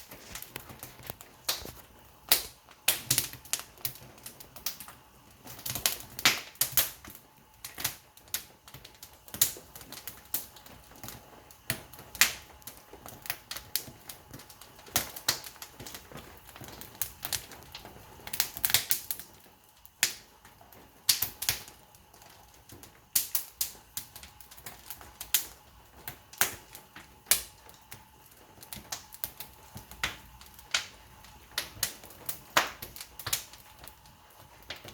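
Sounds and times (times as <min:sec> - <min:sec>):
burning wood crackling and popping: 0:00.0 - 0:34.9.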